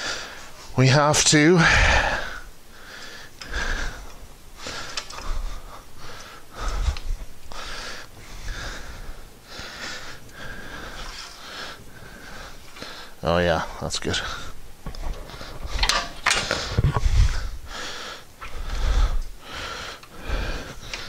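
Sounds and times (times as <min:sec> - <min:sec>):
man breathing hard: 0:00.0 - 0:00.7, 0:01.4 - 0:21.0.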